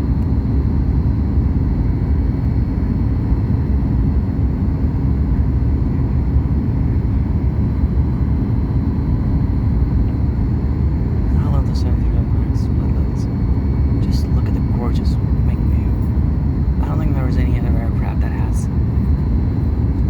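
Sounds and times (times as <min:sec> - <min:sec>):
engine and airflow rumble: 0:00.0 - 0:20.0
faint steady whine: 0:00.0 - 0:20.0.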